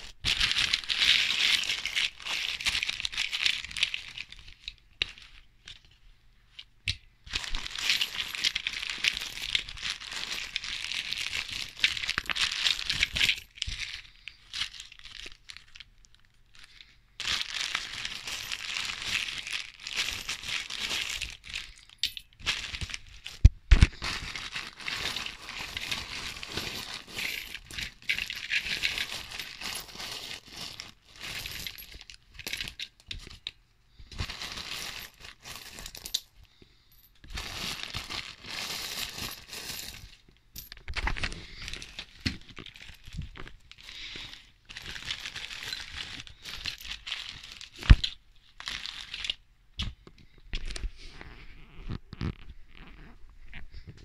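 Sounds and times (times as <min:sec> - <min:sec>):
fabric rustling and crinkling: 0:00.0 - 0:32.3, 0:37.3 - 0:40.2, 0:40.9 - 0:49.4.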